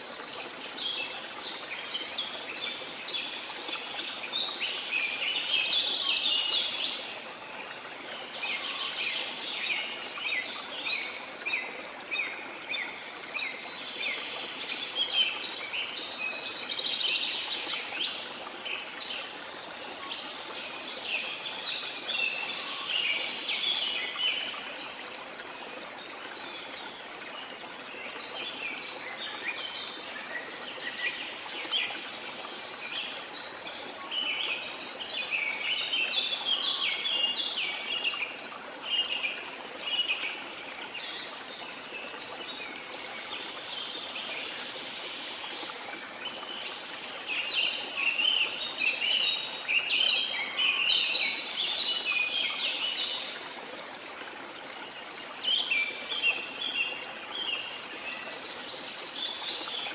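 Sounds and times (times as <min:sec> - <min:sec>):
flowing water: 0:00.0 - 0:59.9.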